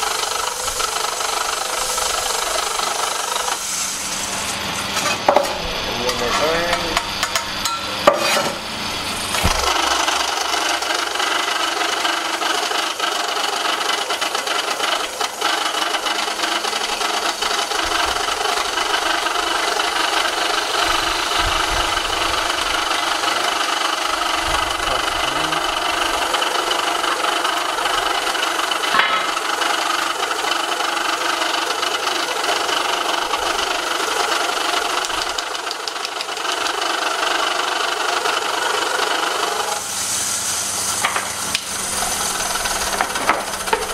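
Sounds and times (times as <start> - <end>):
electric grinding mill rasping: 0.0 - 43.9.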